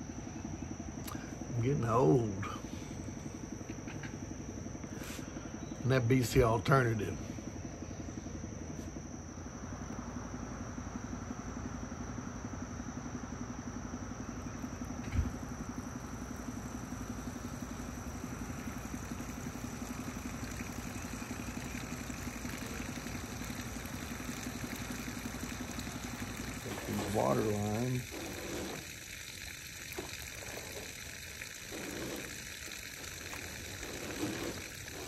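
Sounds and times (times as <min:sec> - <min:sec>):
motor running steadily: 0:00.0 - 0:35.0.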